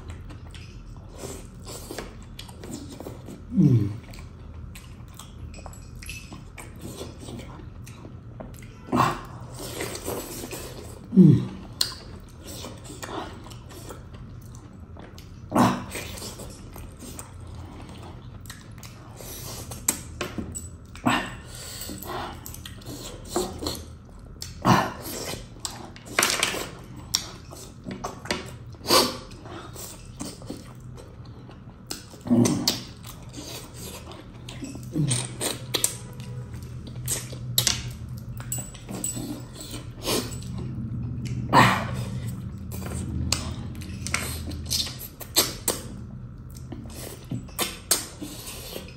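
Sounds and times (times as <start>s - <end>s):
man chewing meat: 0.0s - 48.9s.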